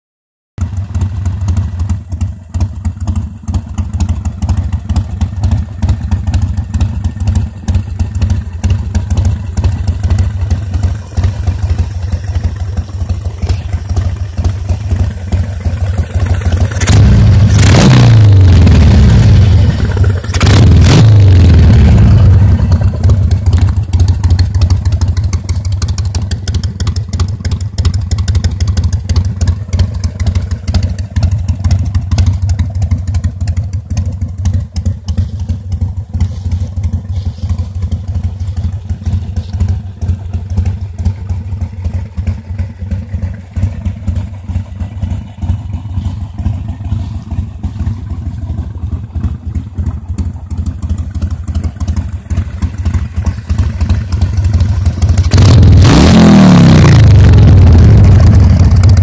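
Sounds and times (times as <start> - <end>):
motorcycle engine idling and revving: 0.6 - 59.0.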